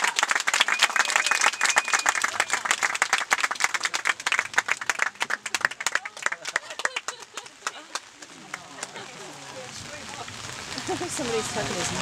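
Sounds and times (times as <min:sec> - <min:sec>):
people clapping and applauding: 0:00.0 - 0:12.0.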